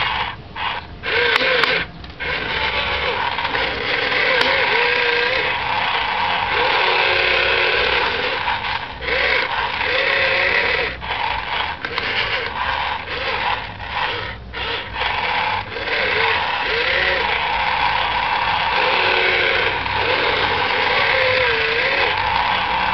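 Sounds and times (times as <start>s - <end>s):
small electric motors whirring: 0.0s - 22.9s.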